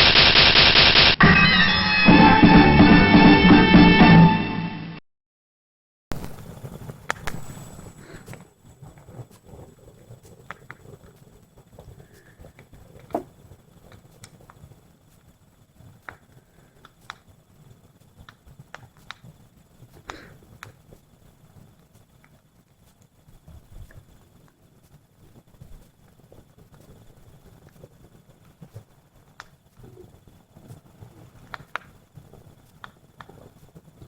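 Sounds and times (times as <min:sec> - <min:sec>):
campfire crackling and popping: 0:06.1 - 0:34.0.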